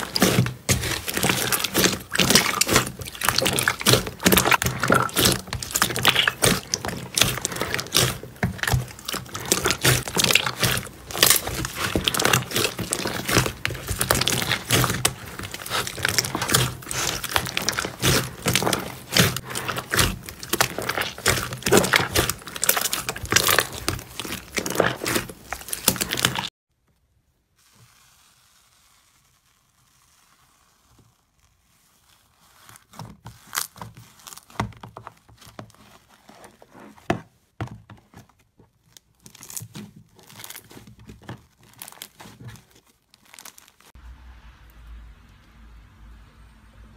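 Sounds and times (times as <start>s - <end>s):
hands squishing slime: 0.0s - 26.5s, 27.9s - 37.1s, 39.2s - 44.0s.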